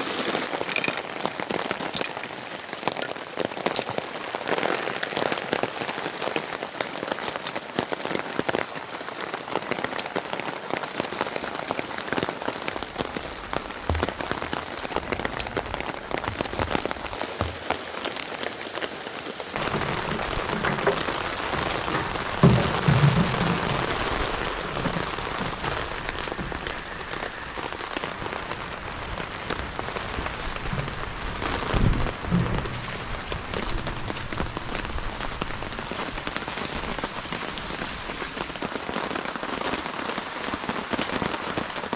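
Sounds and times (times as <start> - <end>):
heavy rain falling: 0.0 - 41.9
raindrops ticking sharply: 0.0 - 41.9.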